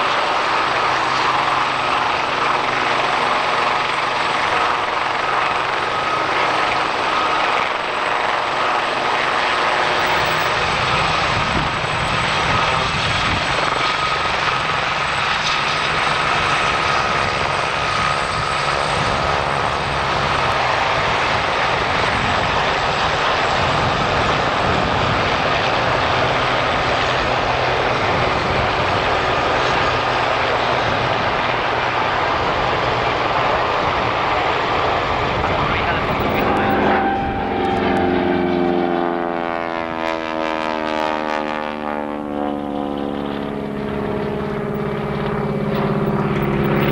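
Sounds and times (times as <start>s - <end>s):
helicopters flying low: 0.0s - 46.9s
turbine whine: 0.0s - 46.9s.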